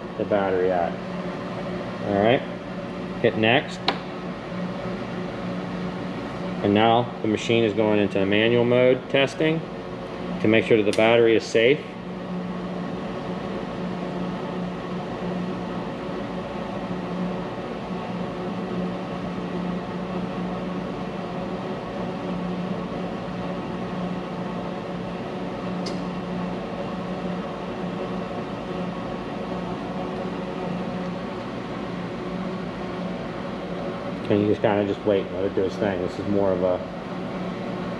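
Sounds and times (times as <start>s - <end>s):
fan-like machine hum: 0.0s - 37.9s.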